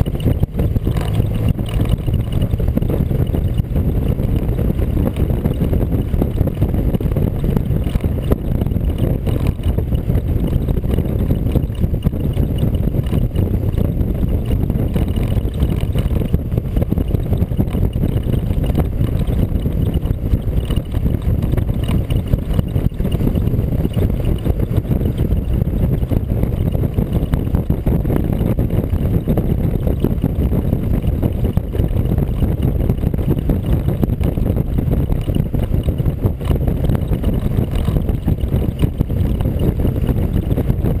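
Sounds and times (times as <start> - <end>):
vehicle rumble at road speed: 0.0 - 41.0
wind buffeting microphone: 0.0 - 41.0.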